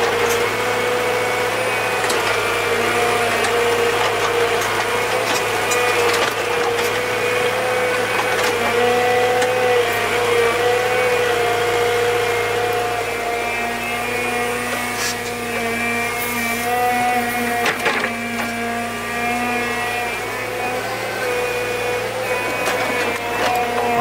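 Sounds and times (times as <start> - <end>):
power tool motor whine: 0.0 - 24.0.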